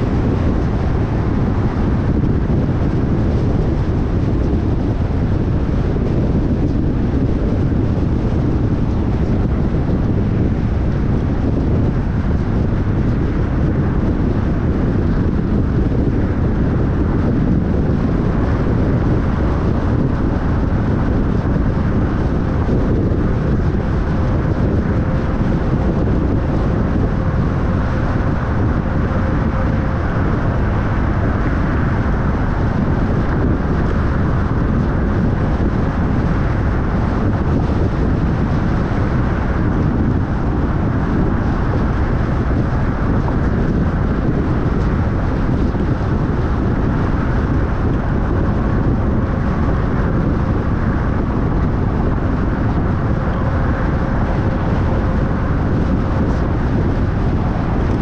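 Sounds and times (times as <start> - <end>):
car driving rumble: 0.0 - 58.0
faint hum: 0.0 - 58.0
road and wind noise: 0.0 - 58.0.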